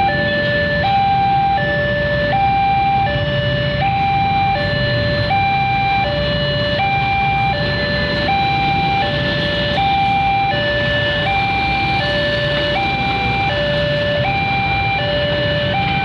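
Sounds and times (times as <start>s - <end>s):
two-tone warning siren: 0.0s - 16.0s.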